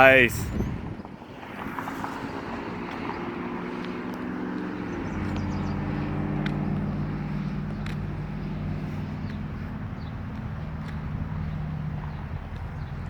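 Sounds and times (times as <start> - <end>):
road noise: 0.0 - 13.0
sports car engine running: 2.2 - 13.0.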